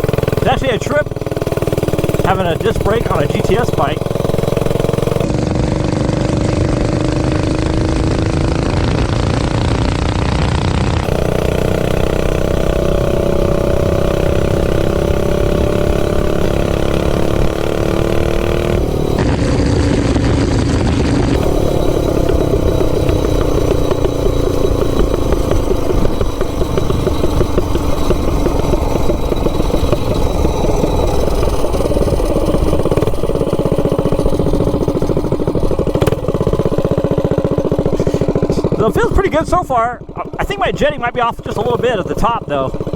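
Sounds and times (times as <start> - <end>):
minibike engine revving: 0.0 - 42.9.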